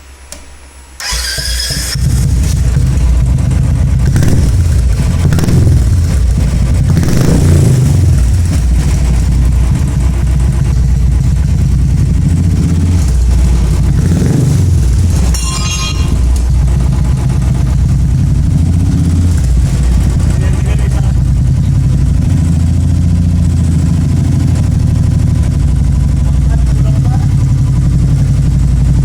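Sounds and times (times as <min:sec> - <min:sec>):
motorcycle engine idling with revs: 0:01.0 - 0:29.0.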